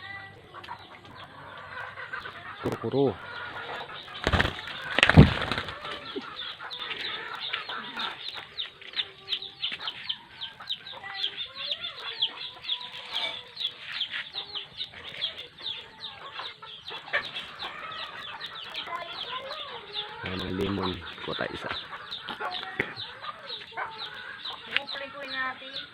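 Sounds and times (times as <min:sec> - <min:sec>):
chickens clucking: 0:00.0 - 0:25.9.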